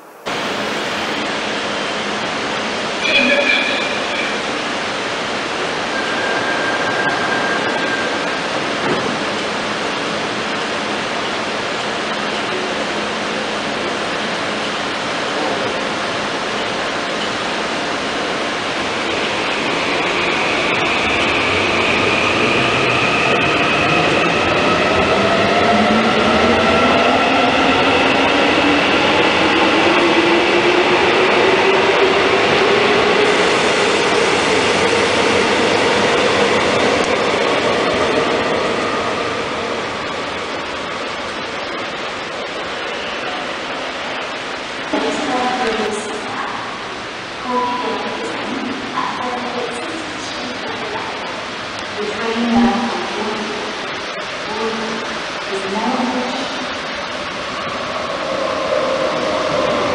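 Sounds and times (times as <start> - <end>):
train rumble and hiss: 0.0 - 59.9.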